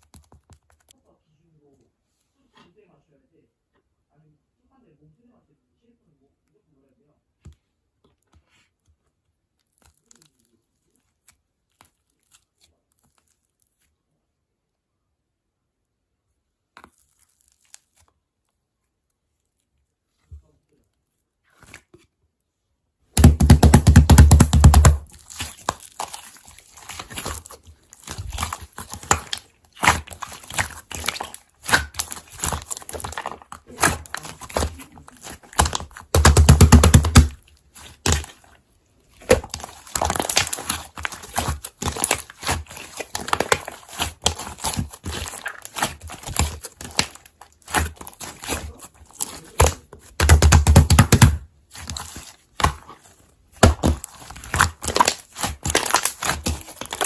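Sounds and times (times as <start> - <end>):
crinkling and rustling: 0.0 - 1.0, 8.0 - 14.1, 16.6 - 57.0.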